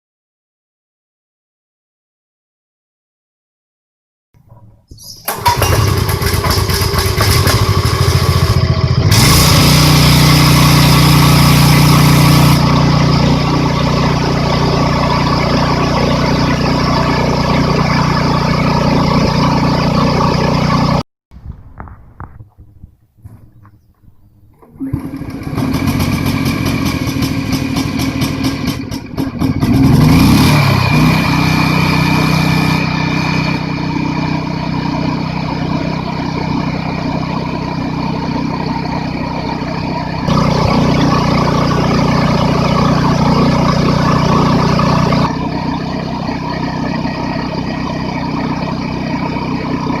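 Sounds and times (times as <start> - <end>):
pressure washer engine running: 5.2 - 21.0, 24.8 - 50.0.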